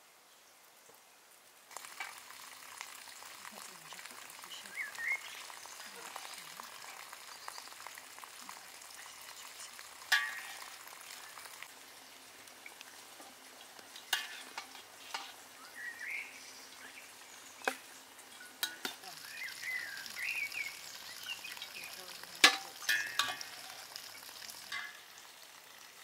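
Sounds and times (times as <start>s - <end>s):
jam sizzling in pot: 1.7s - 26.0s.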